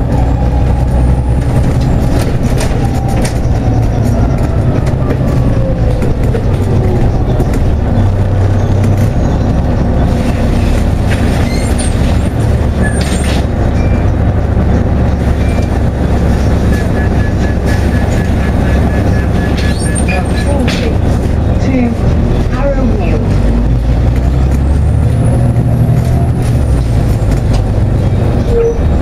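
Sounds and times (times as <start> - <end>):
bus engine droning: 0.0 - 29.0
interior clicks and rattles: 1.2 - 29.0.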